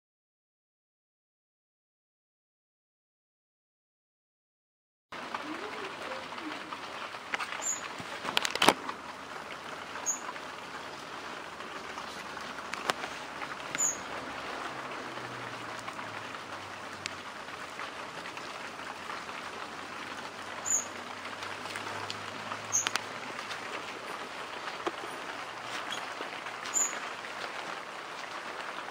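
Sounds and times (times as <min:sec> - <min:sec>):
rain pattering: 0:05.1 - 0:28.9
raindrops tapping: 0:05.2 - 0:28.9.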